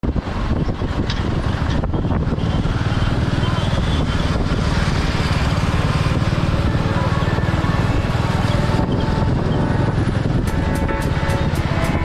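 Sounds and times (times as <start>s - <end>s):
wind and road rush: 0.0s - 12.0s
motorcycle engine running: 1.4s - 12.0s.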